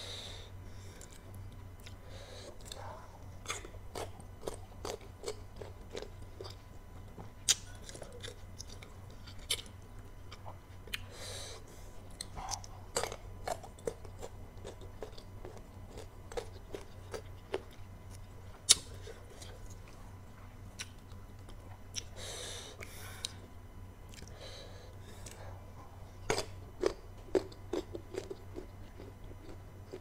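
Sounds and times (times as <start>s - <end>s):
crunchy chewing of mango: 0.4s - 30.0s.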